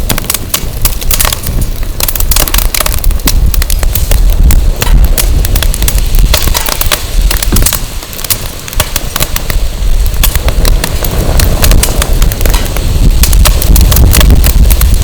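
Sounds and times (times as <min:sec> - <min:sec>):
firewood crackling and popping: 0:00.0 - 0:15.0
wind buffeting microphone: 0:00.0 - 0:15.0.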